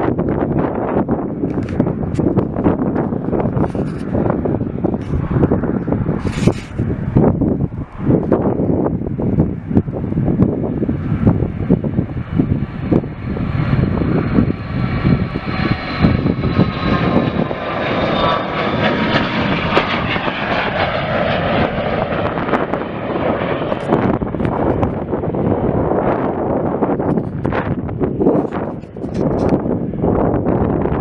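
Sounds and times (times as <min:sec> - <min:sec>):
airplane engines passing: 0:00.0 - 0:31.0.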